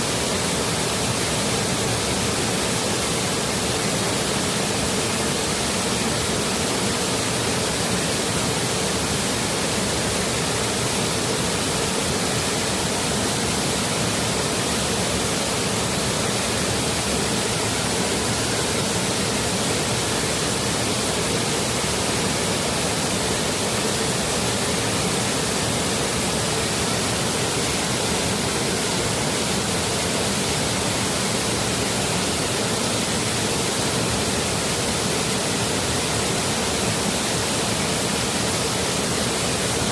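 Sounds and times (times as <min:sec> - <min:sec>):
stream and small waterfall rushing: 0:00.0 - 0:39.9.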